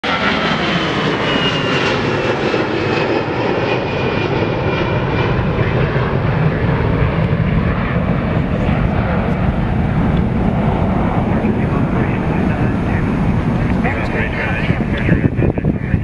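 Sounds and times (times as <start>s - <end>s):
high engine whine: 0.0s - 16.0s
turboprop engines running: 0.0s - 16.0s.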